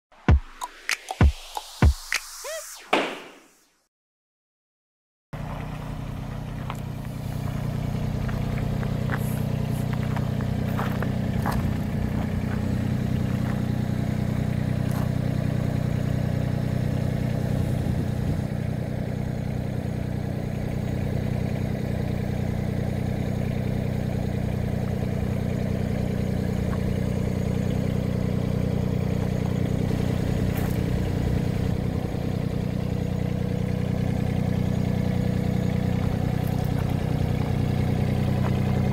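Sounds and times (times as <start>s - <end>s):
diesel engine idling: 5.4s - 38.9s.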